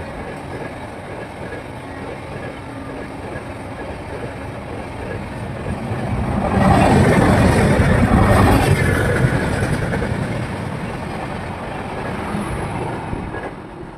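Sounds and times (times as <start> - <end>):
train wheels clattering on rail: 0.0 - 13.8.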